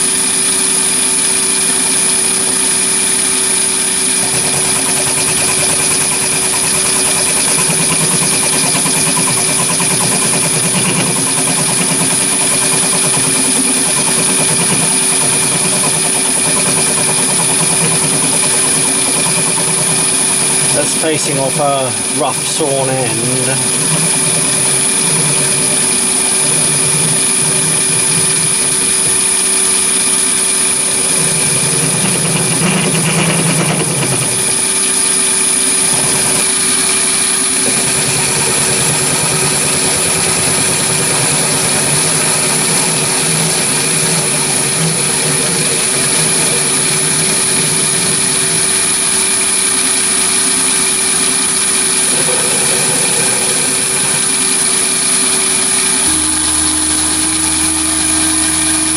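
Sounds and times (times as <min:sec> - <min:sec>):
lathe motor high whine: 0:00.0 - 0:58.9
lathe tool cutting steel: 0:00.0 - 0:58.9.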